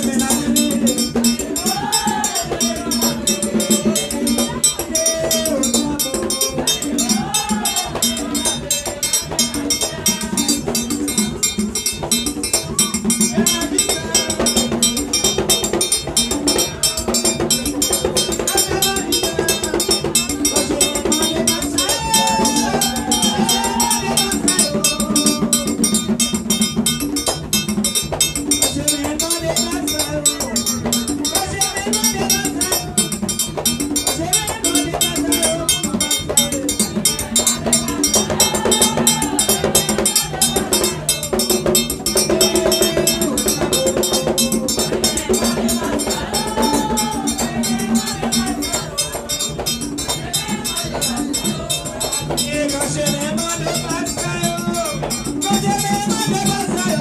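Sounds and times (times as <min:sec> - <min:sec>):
hand drums playing rapid beat: 0:00.0 - 0:57.0
metal bell pattern: 0:00.0 - 0:57.0
voices singing: 0:00.0 - 0:57.0.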